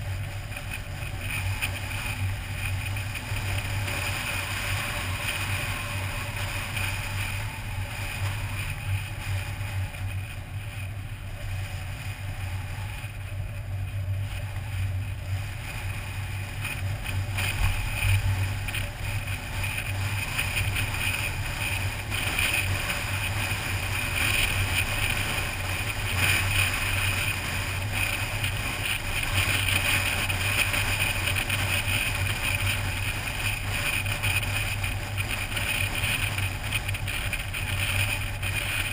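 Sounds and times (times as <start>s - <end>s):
car engine and tyre drone: 0.0s - 38.9s
rushing wind: 0.0s - 38.9s.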